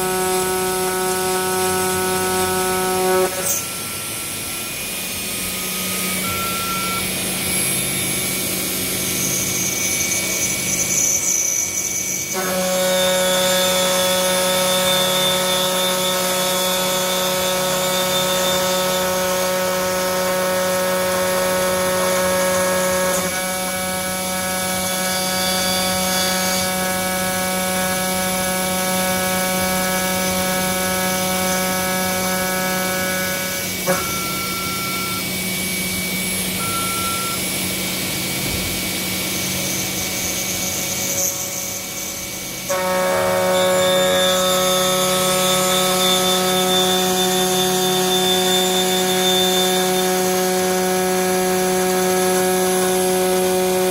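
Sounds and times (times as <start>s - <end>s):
milling machine whining: 0.0s - 53.9s.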